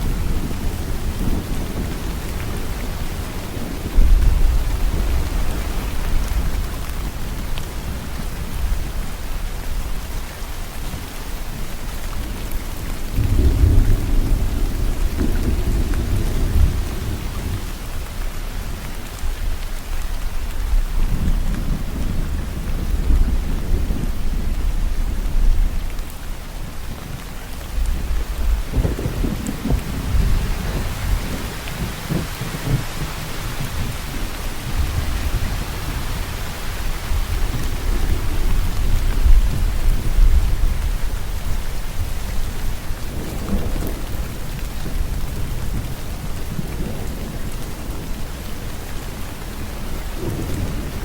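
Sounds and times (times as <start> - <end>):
low rolling thunder: 0.0 - 10.0, 11.6 - 19.5, 20.6 - 51.0
steady rain falling: 0.0 - 51.0.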